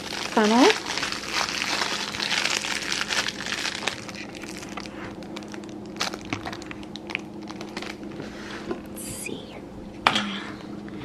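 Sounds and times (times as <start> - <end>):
plastic wrapping crinkling: 0.0 - 9.0.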